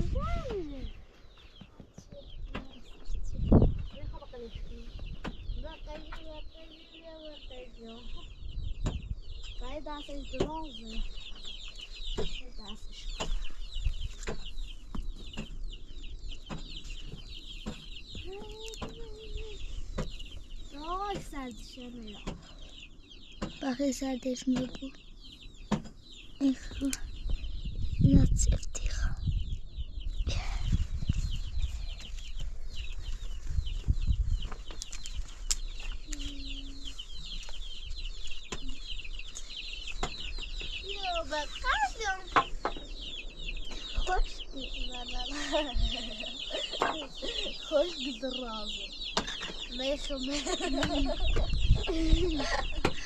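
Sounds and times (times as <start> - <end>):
chicks peeping: 0.0 - 53.0.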